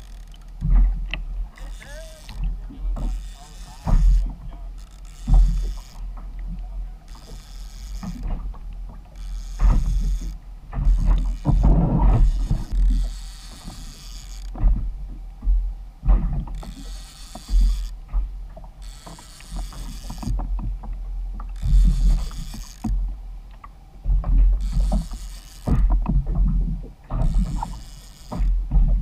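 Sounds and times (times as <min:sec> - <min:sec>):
small clicks and knocks: 0:00.0 - 0:29.0
water slapping against hull: 0:00.0 - 0:29.0.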